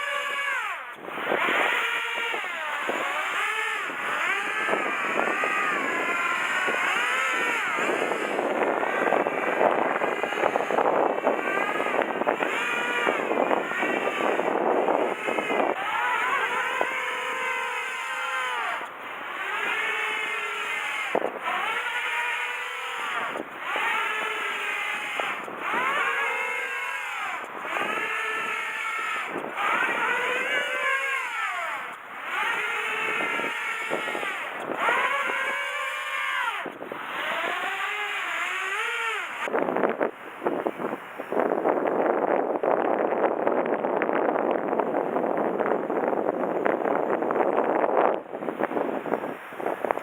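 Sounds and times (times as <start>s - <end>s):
model aircraft motor whine: 0.0s - 50.0s
wind on microphone: 0.0s - 50.0s.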